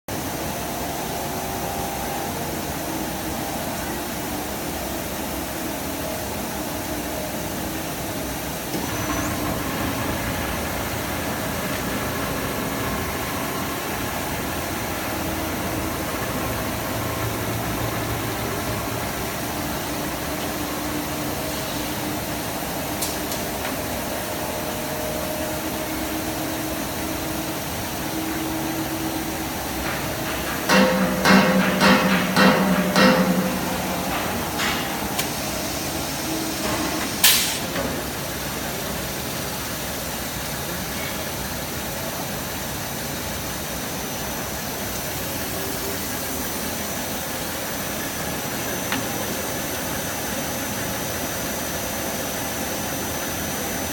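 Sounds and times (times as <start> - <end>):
machine humming and hissing: 0.1 - 53.9.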